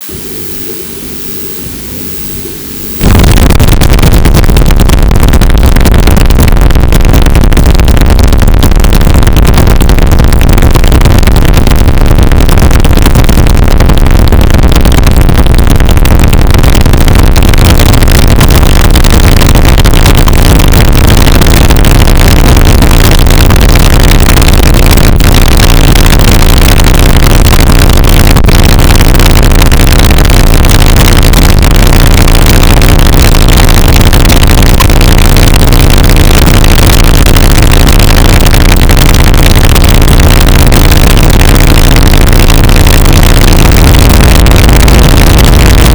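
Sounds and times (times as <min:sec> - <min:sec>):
harsh noise wall from motors: 0:00.0 - 0:45.9
heavy low rumble: 0:00.0 - 0:45.9.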